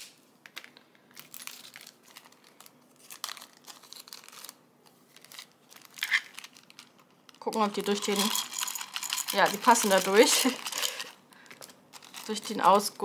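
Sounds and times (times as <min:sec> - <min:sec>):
plastic bag crinkling: 0:01.1 - 0:13.0.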